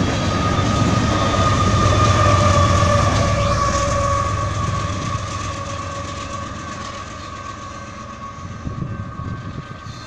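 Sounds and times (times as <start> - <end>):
crossing warning bell ringing: 0.0 - 10.0
freight train rumble: 0.0 - 10.0.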